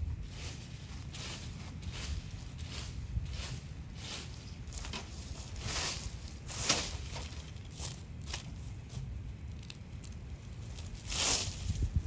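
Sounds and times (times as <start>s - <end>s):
wind rumble on microphone: 0.0s - 12.0s
soft rustles and crackles: 0.2s - 12.0s.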